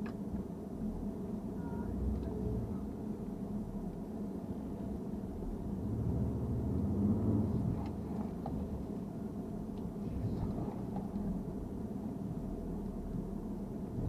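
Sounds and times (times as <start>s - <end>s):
engine rumbling: 1.0s - 14.0s.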